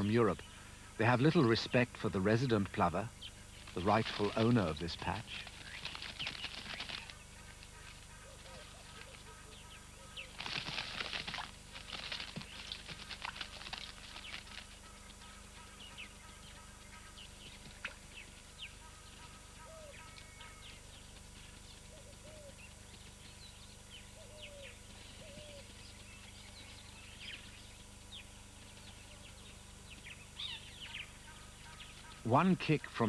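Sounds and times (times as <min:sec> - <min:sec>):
lower arched bird calls: 0:00.0 - 0:33.0
steady low hum: 0:00.0 - 0:33.0.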